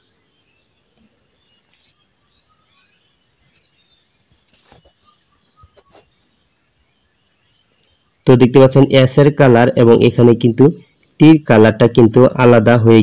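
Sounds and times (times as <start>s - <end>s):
faint chirps: 0.0s - 13.0s.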